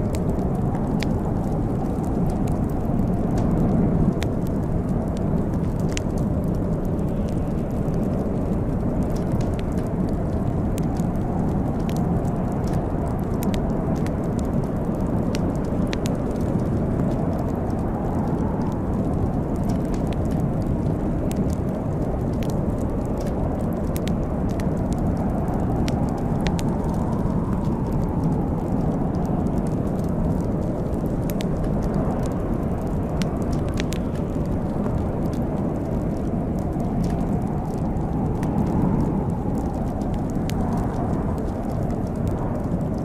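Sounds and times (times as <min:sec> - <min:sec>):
wood fire crackling and popping: 0:00.0 - 0:43.0.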